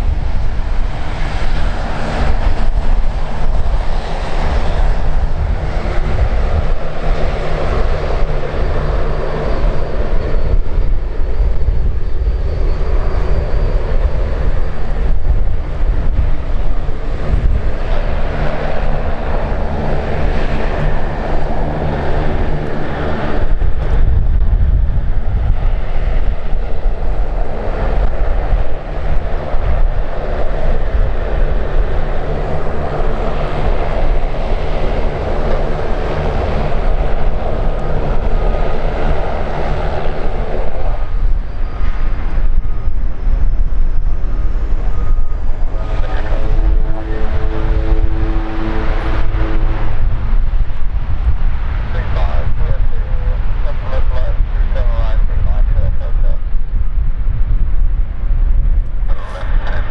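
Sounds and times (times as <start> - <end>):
jet engines rumbling: 0.0 - 59.9
thin engine whine: 0.0 - 59.9.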